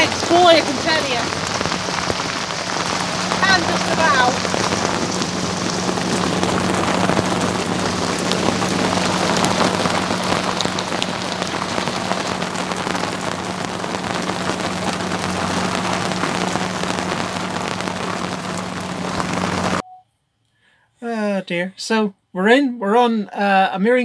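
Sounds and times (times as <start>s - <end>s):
heavy rain hissing: 0.0s - 19.8s
raindrops hitting deck and windows: 0.0s - 19.8s
steady low hum: 0.0s - 19.8s.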